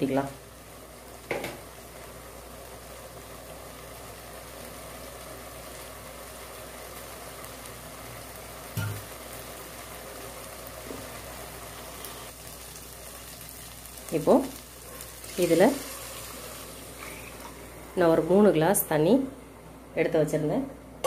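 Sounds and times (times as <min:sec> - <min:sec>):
rice sizzling in a pot: 0:00.0 - 0:19.6.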